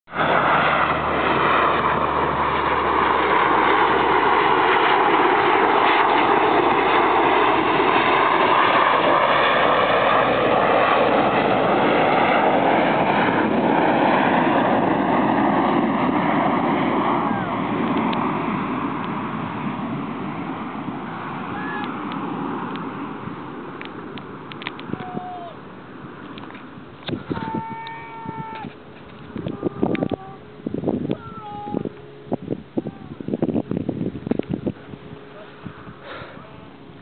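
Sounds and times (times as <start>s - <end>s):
propeller aircraft droning overhead: 0.0s - 37.0s.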